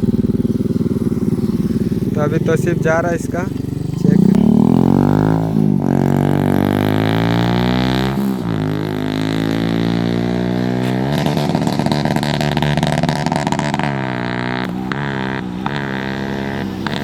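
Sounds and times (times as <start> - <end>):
motorcycle accelerating through gears: 0.0 - 17.0.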